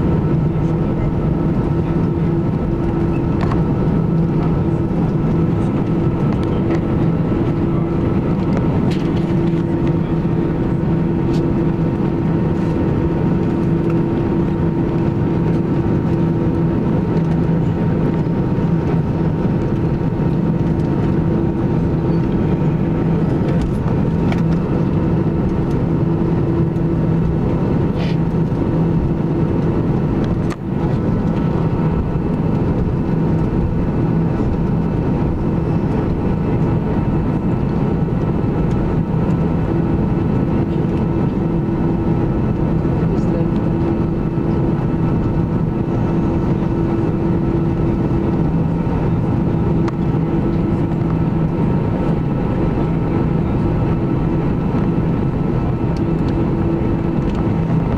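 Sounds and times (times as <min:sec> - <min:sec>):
jet engines humming and whining: 0:00.0 - 0:57.9.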